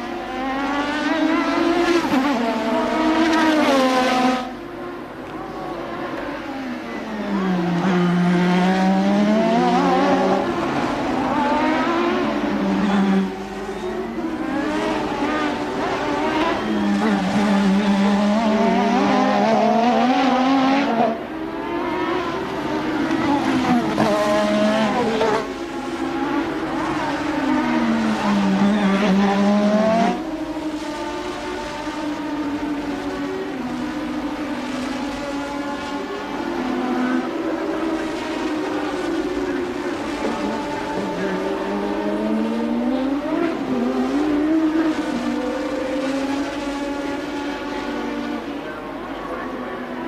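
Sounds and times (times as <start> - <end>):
racing car engines revving: 0.0 - 50.0.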